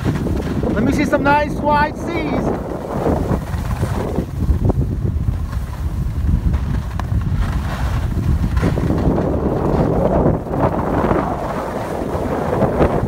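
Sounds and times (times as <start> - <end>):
skis sliding over snow: 0.0 - 13.0
wind buffeting microphone: 0.0 - 13.0.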